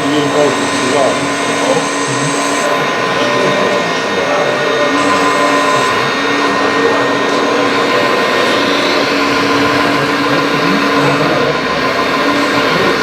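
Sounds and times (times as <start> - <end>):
hydraulic pump whine: 0.0 - 13.0
low tone: 0.0 - 13.0.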